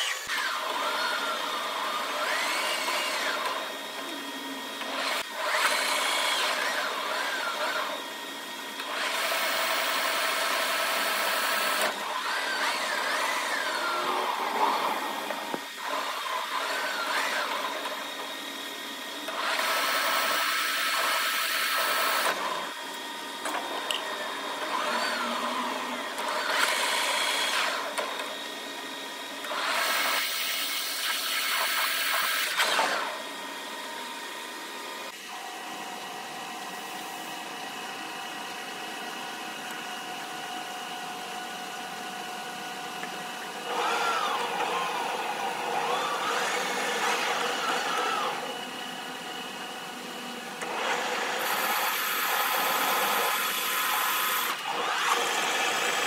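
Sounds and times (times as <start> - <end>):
lathe cutting metal: 0.0 - 36.0, 39.6 - 56.0
lathe gear whine: 0.0 - 56.0.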